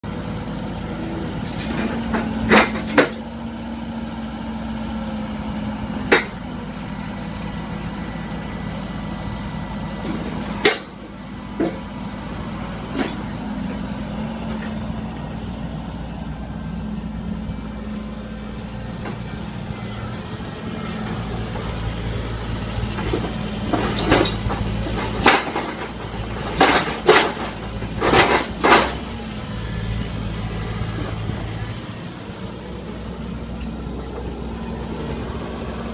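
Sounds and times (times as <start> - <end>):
drilling rig running: 0.0 - 35.9.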